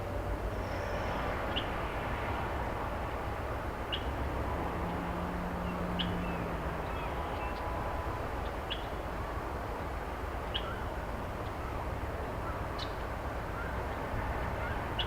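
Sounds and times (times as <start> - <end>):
soft outdoor hiss: 0.0 - 15.0.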